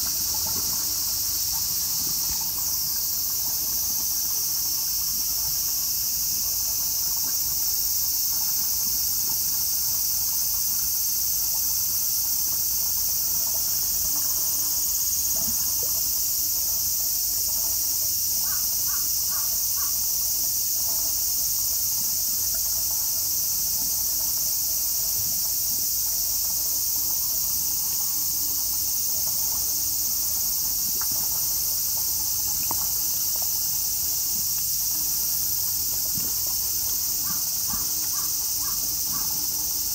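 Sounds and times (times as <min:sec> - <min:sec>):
cicadas droning: 0:00.0 - 0:39.9
short insect calls: 0:00.0 - 0:39.9.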